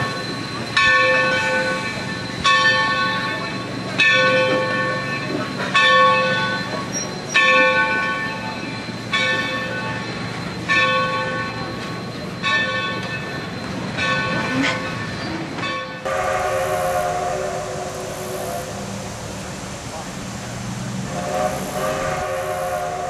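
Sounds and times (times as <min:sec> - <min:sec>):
locomotive bell ringing: 0:00.0 - 0:19.1, 0:21.1 - 0:23.0
train cars rumbling on rails: 0:00.0 - 0:23.0.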